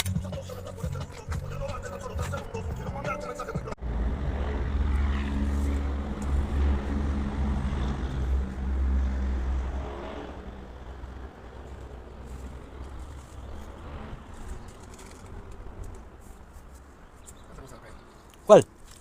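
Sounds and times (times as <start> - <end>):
motor vehicle engine rumble: 0.0 - 18.3.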